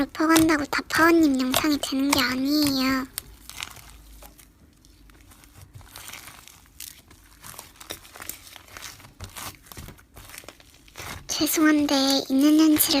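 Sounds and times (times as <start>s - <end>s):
slime crackling and popping: 0.0s - 13.0s.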